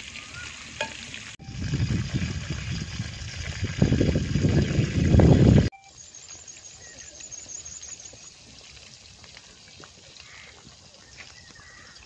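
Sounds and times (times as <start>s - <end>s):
food deep-frying in oil: 0.0s - 12.0s
oil popping and crackling: 0.0s - 12.0s.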